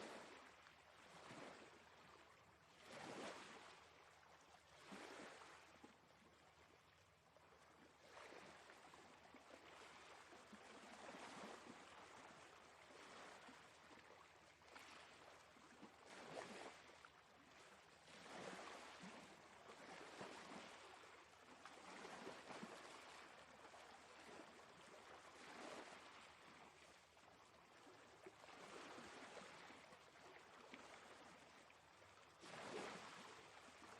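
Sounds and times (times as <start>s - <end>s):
faint sea waves washing in: 0.0s - 6.5s, 7.4s - 33.9s.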